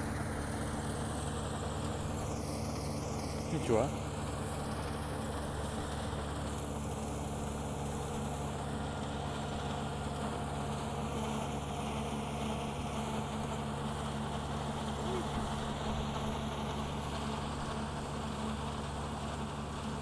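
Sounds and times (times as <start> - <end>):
combine harvester engine hum: 0.0 - 20.0.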